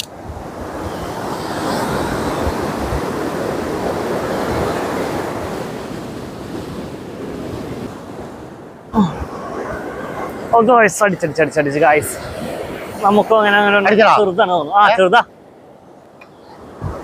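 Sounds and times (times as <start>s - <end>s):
wave washing in and draining: 0.0s - 17.0s
wind buffeting microphone: 0.0s - 17.0s.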